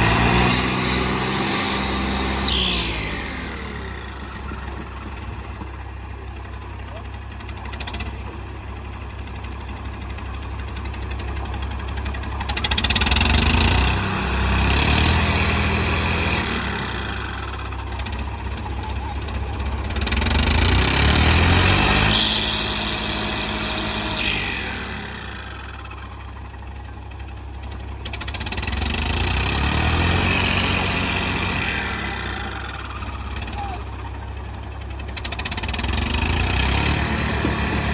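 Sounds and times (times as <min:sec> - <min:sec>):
tractor engines revving: 0:00.0 - 0:37.9.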